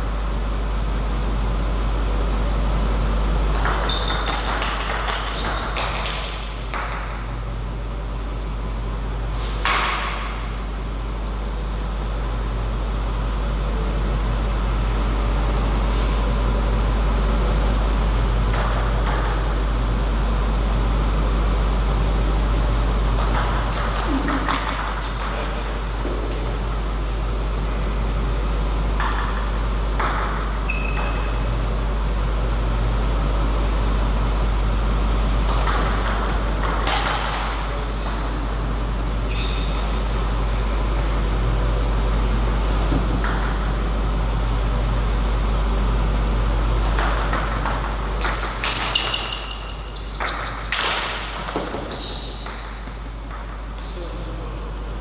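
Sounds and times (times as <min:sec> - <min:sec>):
low hum in hall: 0:00.0 - 0:55.0.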